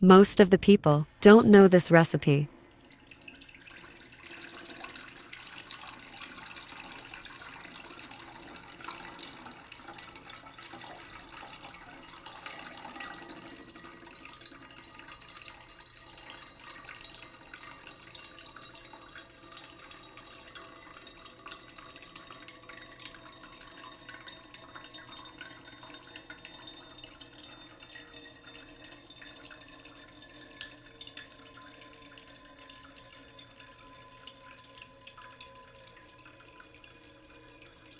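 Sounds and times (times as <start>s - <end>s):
running water with droplets: 2.5s - 37.9s.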